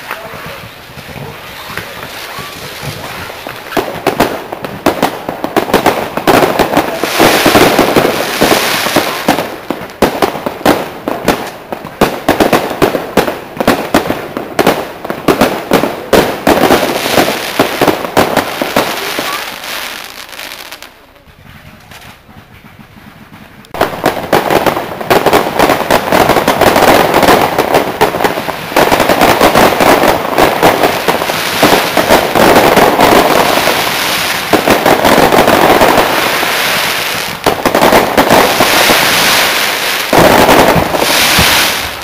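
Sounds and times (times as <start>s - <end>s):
fireworks bursts and bangs: 0.0s - 42.0s.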